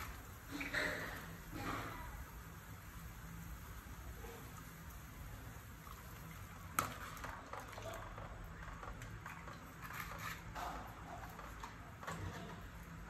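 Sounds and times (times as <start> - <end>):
broth bubbling at a boil: 0.0 - 13.0.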